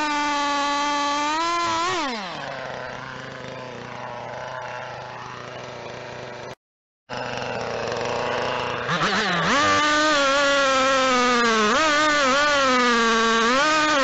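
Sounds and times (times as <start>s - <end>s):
engine revving then idling: 0.0s - 14.0s.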